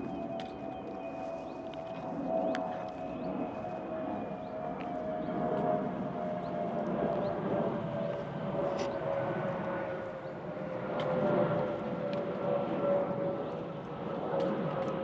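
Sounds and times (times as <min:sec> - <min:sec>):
distant aircraft droning: 0:00.0 - 0:15.0.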